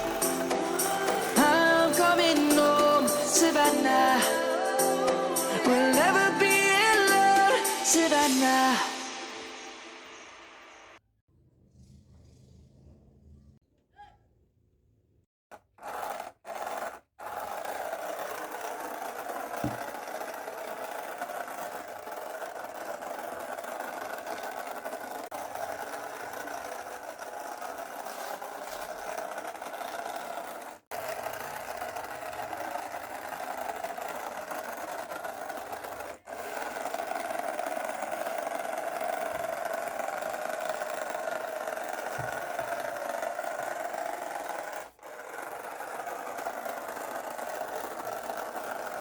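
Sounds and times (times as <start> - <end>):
small electric motors whirring: 0.0 - 9.7, 15.5 - 49.0.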